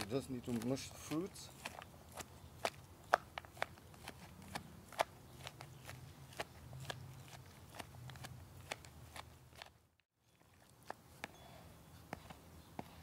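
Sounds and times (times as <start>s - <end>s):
wooden stick crushing berries: 0.0s - 13.0s.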